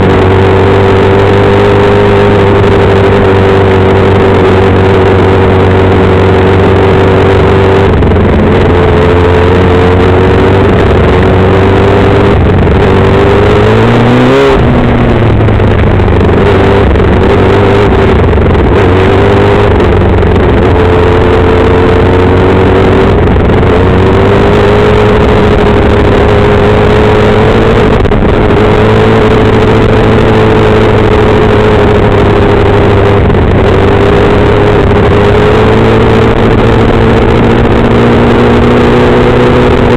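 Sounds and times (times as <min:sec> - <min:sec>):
racing car engine: 0:00.0 - 0:39.9
tyre and dirt noise: 0:00.0 - 0:39.9.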